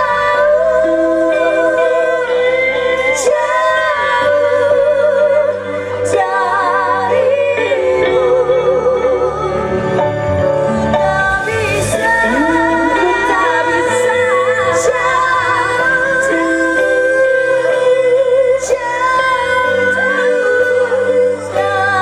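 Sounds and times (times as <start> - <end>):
keyboard: 0.0 - 22.0
woman singing with vibrato: 0.0 - 22.0.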